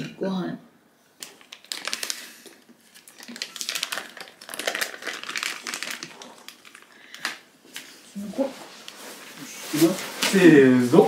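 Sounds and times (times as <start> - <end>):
crinkling and rustling: 1.2 - 11.0.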